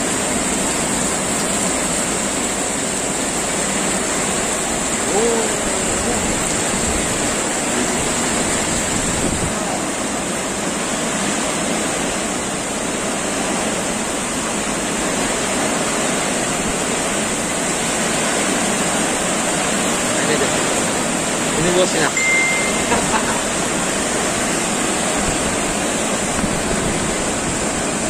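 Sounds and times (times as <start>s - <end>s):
heavy rain in strong wind: 0.0s - 28.0s.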